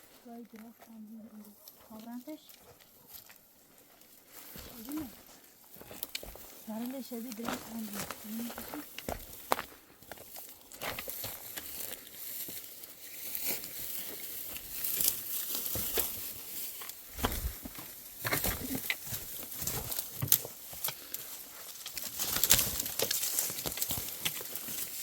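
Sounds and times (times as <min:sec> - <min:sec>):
dry leaves and twigs rustling: 0:00.0 - 0:25.0.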